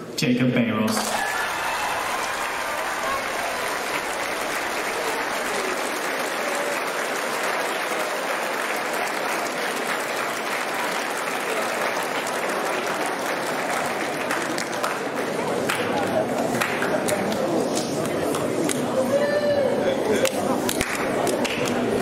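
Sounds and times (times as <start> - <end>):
large audience applauding: 1.0 - 19.0, 20.2 - 22.0.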